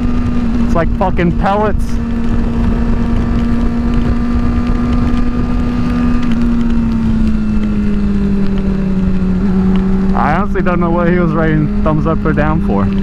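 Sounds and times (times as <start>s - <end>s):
motorcycle engine cruising: 0.0s - 13.0s
wind rushing over microphone: 0.0s - 13.0s.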